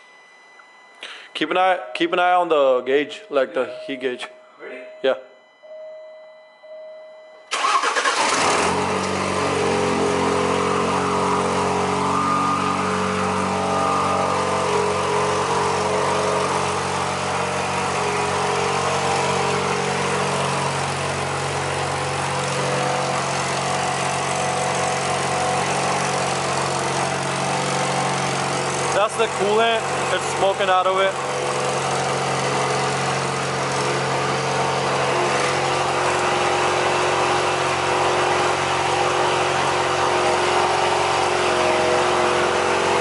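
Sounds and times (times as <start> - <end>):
car engine starting and idling: 6.6 - 43.0.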